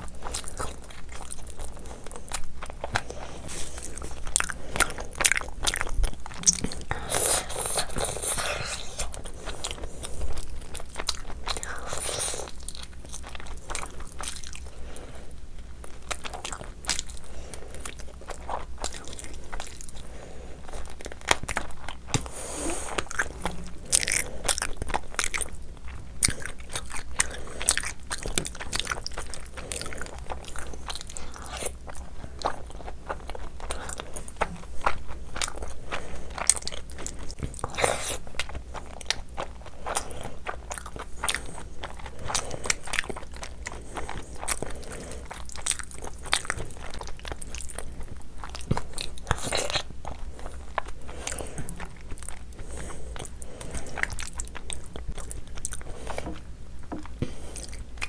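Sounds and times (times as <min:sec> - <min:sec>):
person biting and chewing: 0:00.0 - 0:14.6, 0:17.8 - 0:58.0.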